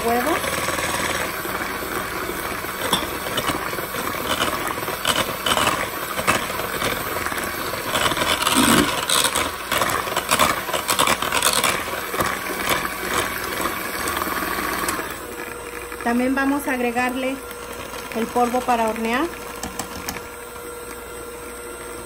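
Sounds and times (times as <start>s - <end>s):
mixer beaters clicking and rattling: 0.0s - 20.3s
electric hand mixer running: 0.0s - 22.0s.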